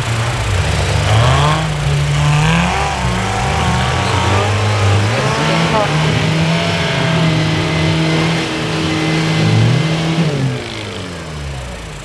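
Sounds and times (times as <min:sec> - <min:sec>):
engine at high revs: 0:00.0 - 0:12.0.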